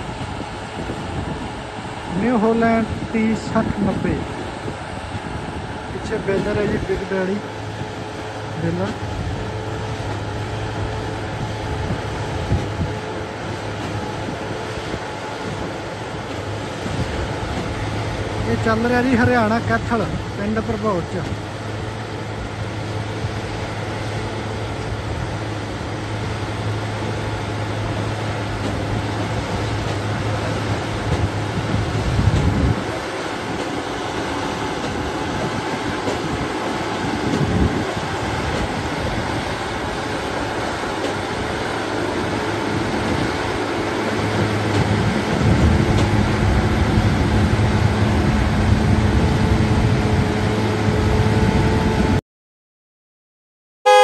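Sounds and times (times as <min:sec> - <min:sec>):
tractor diesel engine under load: 0:00.0 - 0:52.2.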